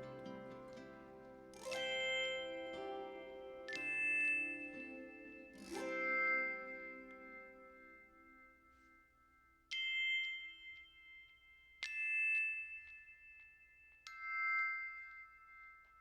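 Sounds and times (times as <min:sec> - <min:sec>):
metallic chime tones: 0:00.0 - 0:16.0.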